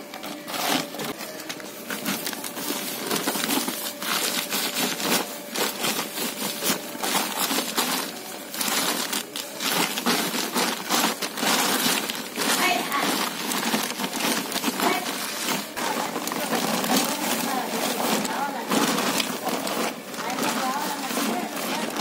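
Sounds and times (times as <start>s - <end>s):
plastic sack crinkling: 0.0s - 22.0s.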